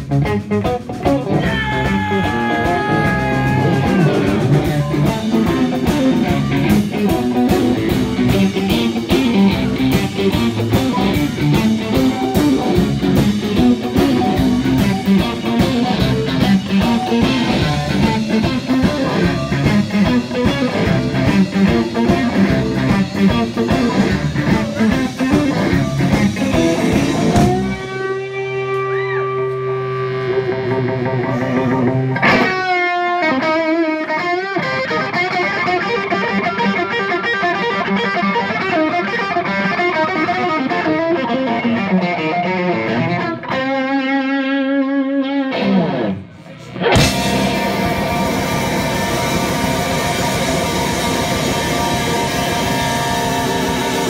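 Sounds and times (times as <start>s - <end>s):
drums: 0.0s - 44.3s, 45.4s - 54.0s
bass guitar: 0.0s - 54.0s
electric guitar: 0.0s - 54.0s.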